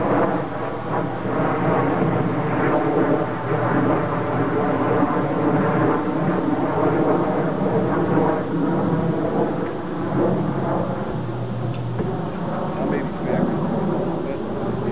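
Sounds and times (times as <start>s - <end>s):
motor and mechanism rumbling: 0.0s - 14.9s.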